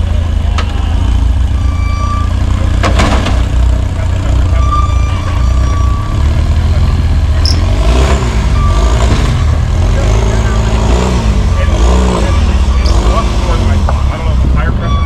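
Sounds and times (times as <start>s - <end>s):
buggy engine under load: 0.0s - 15.0s.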